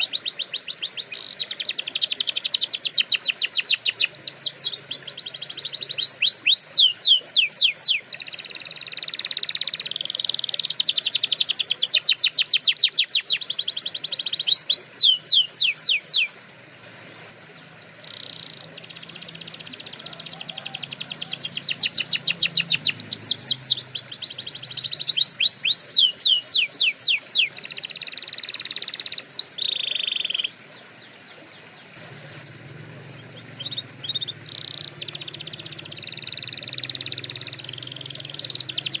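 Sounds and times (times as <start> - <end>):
canary singing: 0.0 - 16.4, 17.4 - 39.0.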